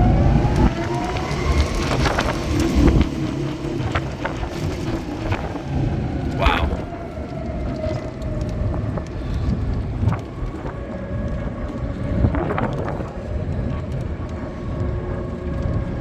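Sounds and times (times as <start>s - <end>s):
wind and road rumble: 0.0s - 16.0s.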